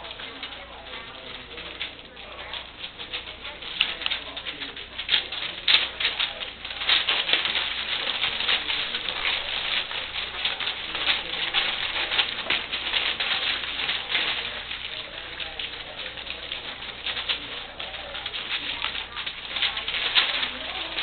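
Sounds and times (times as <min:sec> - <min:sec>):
puppies eating: 0:00.0 - 0:21.0.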